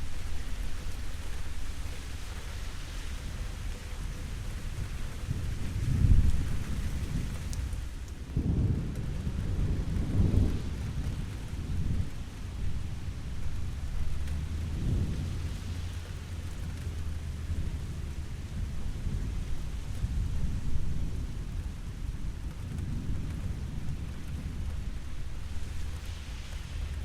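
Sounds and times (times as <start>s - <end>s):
steady rain: 0.0s - 27.0s
distant thunder rumble: 3.2s - 27.0s.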